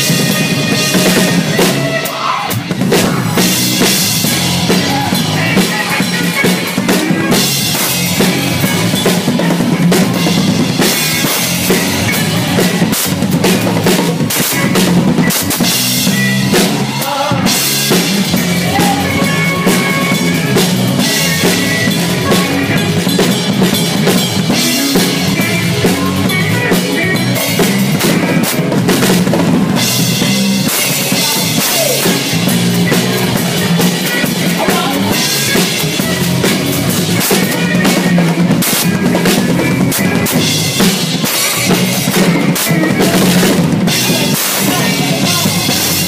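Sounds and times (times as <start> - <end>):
bass drum: 2.6 - 46.0.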